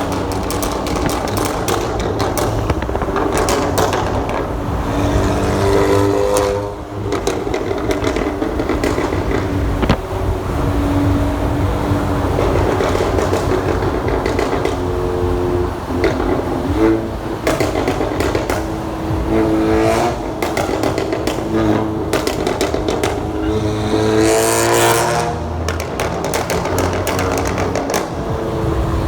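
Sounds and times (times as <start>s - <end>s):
car engine through loud exhaust: 0.0s - 29.0s
sharp exhaust pops: 0.0s - 29.0s.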